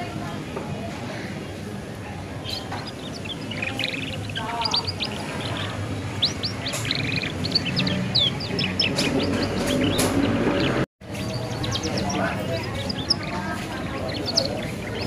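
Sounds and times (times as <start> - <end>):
canary twittering: 2.2 - 15.0.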